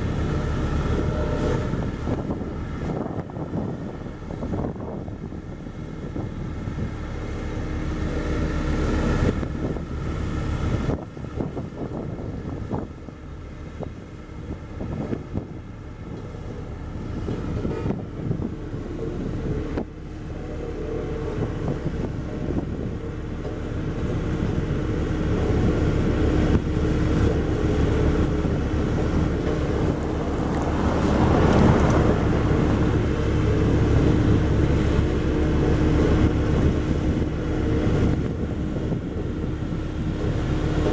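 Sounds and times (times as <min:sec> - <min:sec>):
road roller diesel engine: 0:00.0 - 0:40.9
wind buffeting microphone: 0:00.0 - 0:40.9.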